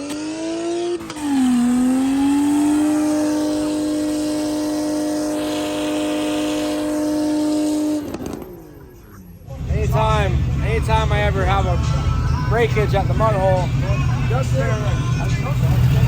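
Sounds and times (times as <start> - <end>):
truck engine at high revs: 0.0 - 12.3, 12.9 - 16.0.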